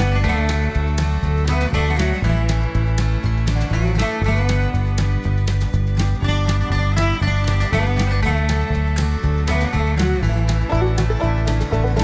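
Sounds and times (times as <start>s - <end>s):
country music with acoustic guitar: 0.0s - 12.0s.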